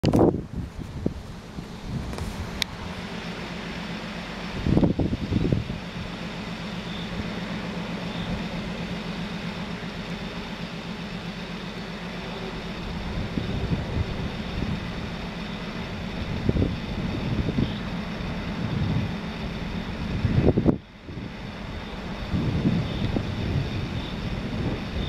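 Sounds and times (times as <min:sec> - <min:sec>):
diesel locomotive engine droning: 0:00.0 - 0:25.0
wind buffeting microphone: 0:00.0 - 0:25.0.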